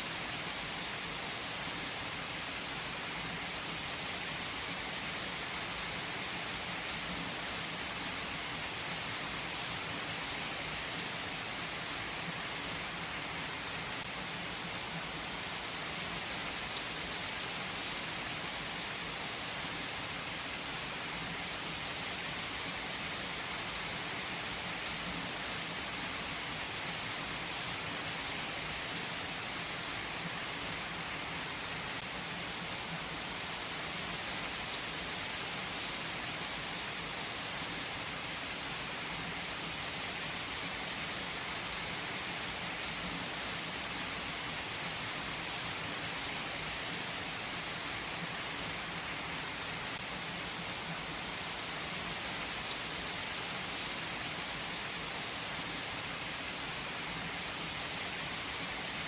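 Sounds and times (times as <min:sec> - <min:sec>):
heavy rain on trees: 0:00.0 - 0:59.0.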